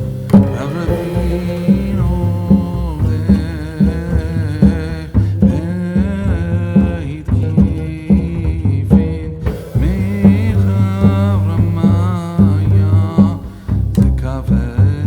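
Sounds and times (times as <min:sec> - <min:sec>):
song with bass and drums: 0:00.0 - 0:15.0.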